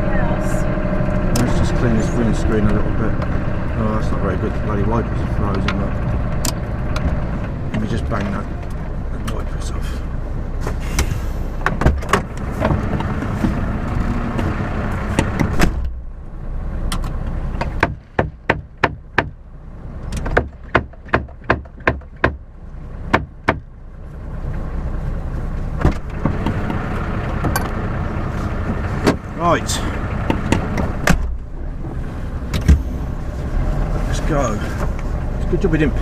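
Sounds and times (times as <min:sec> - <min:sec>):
truck engine idling: 0:00.0 - 0:36.0
wind: 0:00.0 - 0:36.0.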